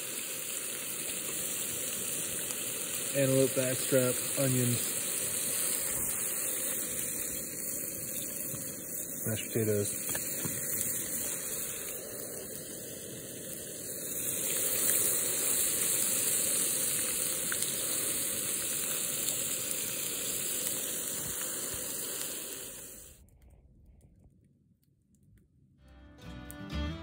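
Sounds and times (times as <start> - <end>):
meat sizzling in a frying pan: 0.0 - 23.2.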